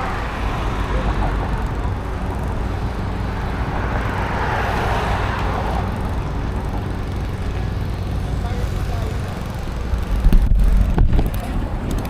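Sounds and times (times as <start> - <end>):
motor vehicle passing: 0.0 - 12.0
road and wind rumble: 0.0 - 12.0.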